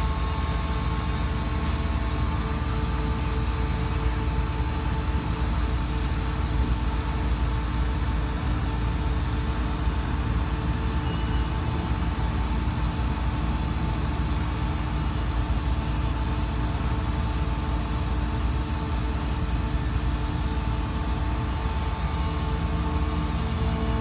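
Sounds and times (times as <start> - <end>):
machine droning: 0.0 - 24.0.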